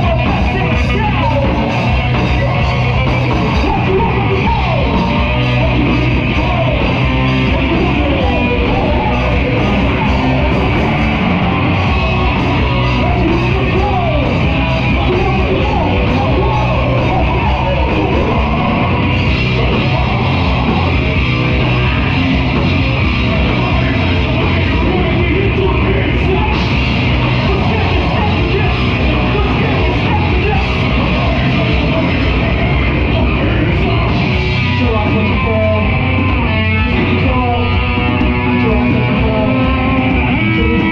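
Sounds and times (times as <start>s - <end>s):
electric guitar: 0.0s - 40.9s
live rock band playing: 0.0s - 40.9s
person singing into a microphone: 0.0s - 40.9s.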